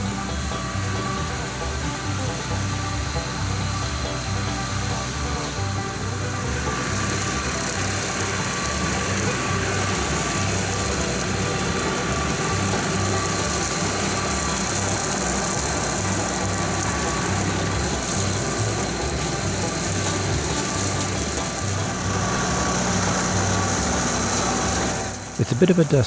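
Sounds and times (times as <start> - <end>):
diesel tractor running under load: 0.0 - 26.0.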